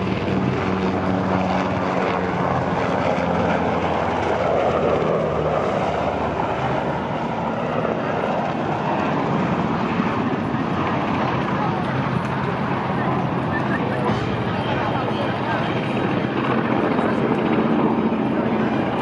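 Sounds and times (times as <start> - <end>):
helicopter passing by: 0.0 - 19.0.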